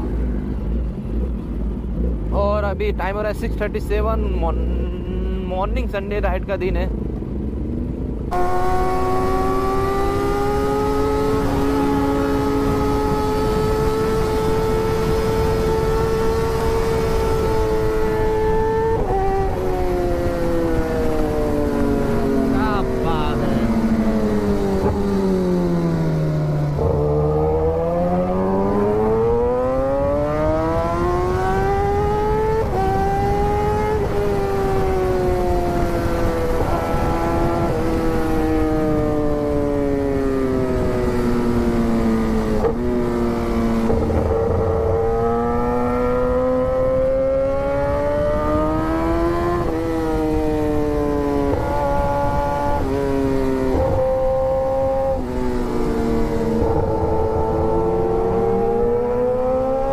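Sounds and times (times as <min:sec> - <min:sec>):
motorcycle engine revving: 0:07.0 - 0:59.9.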